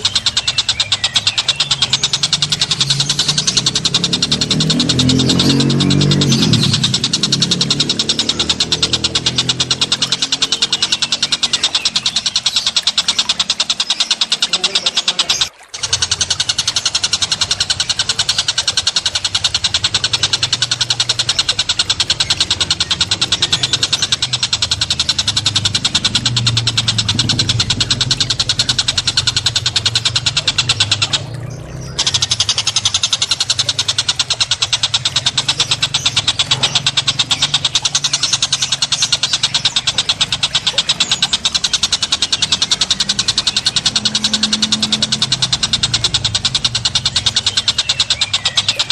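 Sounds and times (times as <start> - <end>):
songbirds rattling trill: 0.0 - 48.9.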